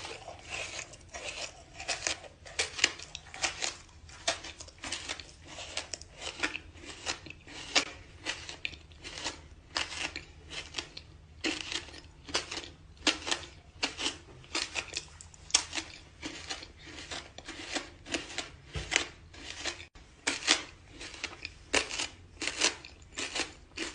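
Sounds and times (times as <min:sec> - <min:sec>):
person chewing dirt: 0:00.0 - 0:23.9.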